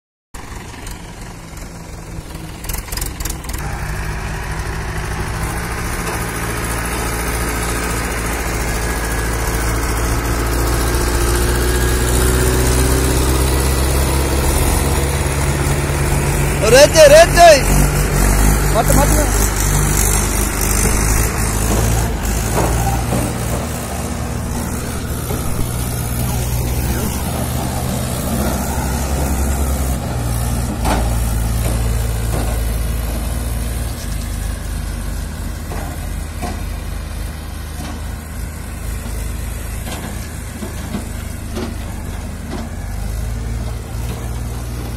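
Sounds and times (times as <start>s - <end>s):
tractor diesel engine running: 0.4s - 44.9s.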